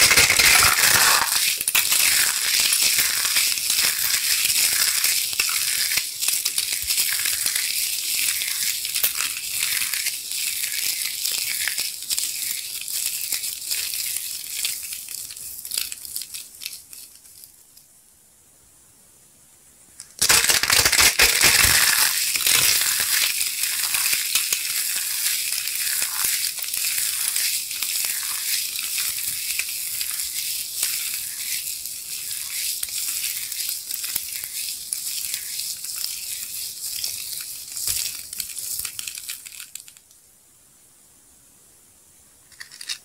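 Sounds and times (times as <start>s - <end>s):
confetti crunching: 0.0s - 17.3s, 20.2s - 40.0s
sequins crinkling crackle: 0.0s - 17.9s, 20.0s - 40.2s.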